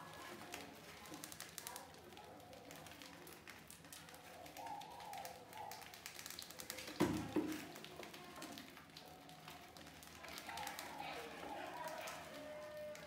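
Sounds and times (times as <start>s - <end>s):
rat claws scratching plastic: 0.0s - 13.0s.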